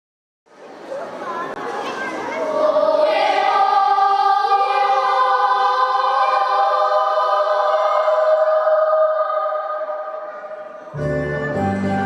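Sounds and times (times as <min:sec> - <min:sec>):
children's choir singing: 0:01.4 - 0:12.0.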